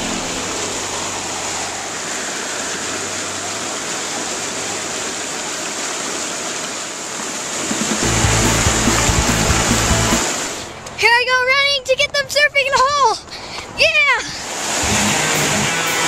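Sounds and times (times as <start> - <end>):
whitewater rushing and churning: 0.0 - 11.5, 13.7 - 16.0.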